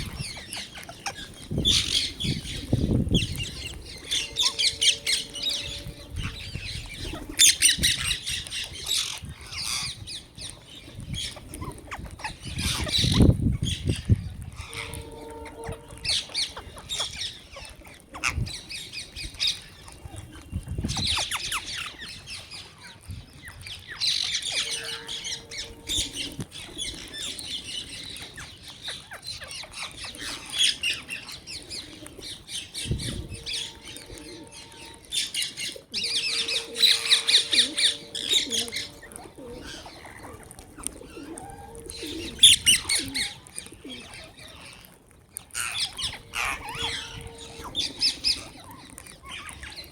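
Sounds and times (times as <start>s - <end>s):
birds chirping and squawking: 0.0s - 49.9s.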